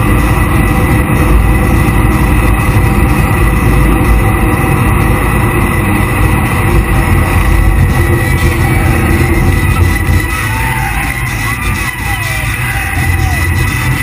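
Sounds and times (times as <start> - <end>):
jet boat engine and water rushing: 0.0 - 14.0.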